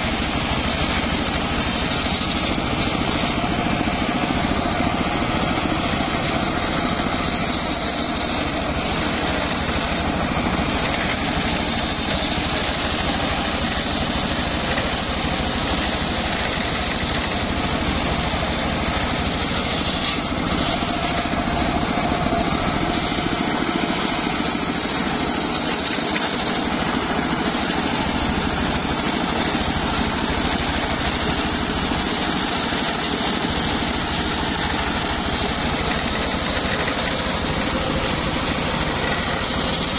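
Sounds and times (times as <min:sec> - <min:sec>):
circular saw ripping wood: 0:00.0 - 0:39.9.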